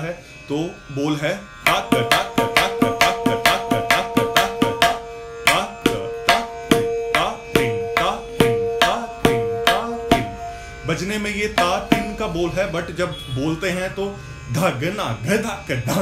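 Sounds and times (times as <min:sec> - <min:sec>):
ringing tabla strokes: 0:01.5 - 0:16.0.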